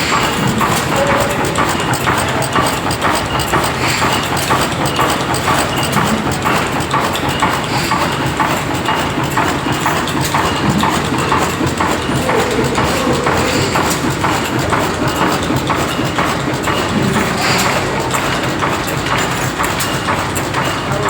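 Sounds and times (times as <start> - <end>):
diesel engine knocking rhythmically: 0.0 - 21.0.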